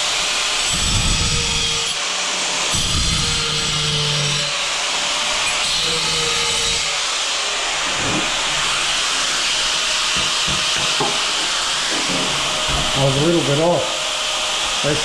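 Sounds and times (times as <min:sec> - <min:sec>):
angle grinder cutting tile: 0:00.1 - 0:15.0.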